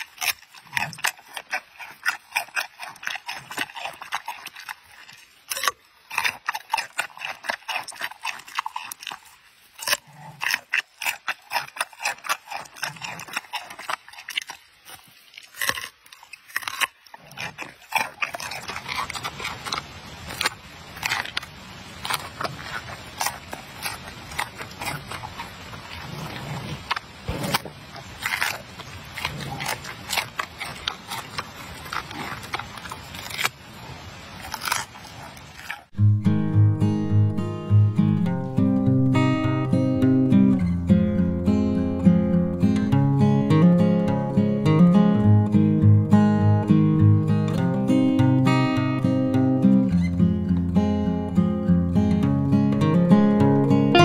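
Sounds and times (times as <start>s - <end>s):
animal crunching carrot: 0.0s - 36.0s, 36.9s - 54.0s.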